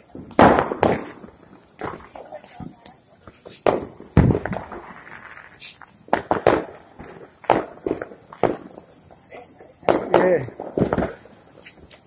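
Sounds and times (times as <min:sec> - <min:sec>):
firework cracks and pops: 0:00.0 - 0:12.0
handheld firework hissing: 0:00.0 - 0:12.0.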